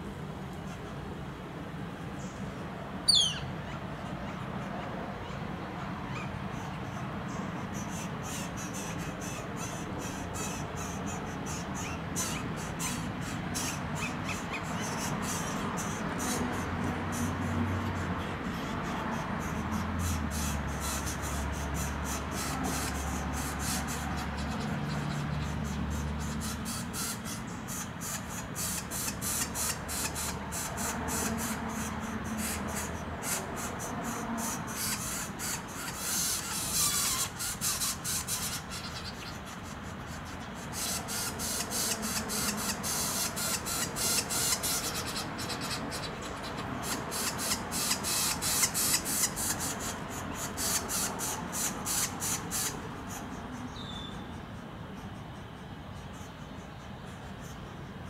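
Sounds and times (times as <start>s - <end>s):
nestlings begging raspy hissing buzz: 3.0s - 58.0s.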